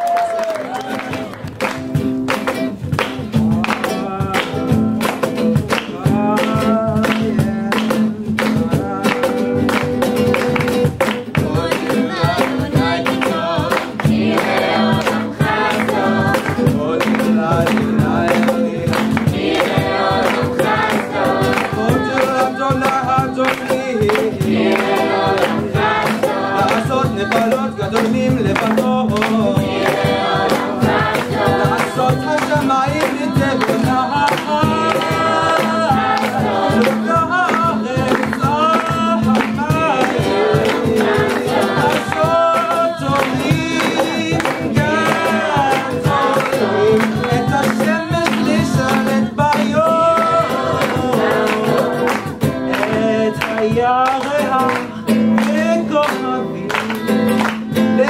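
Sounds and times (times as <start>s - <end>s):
rhythmic handclapping: 0.0s - 58.0s
strummed acoustic guitar: 0.9s - 58.0s
group of young voices singing: 8.6s - 58.0s.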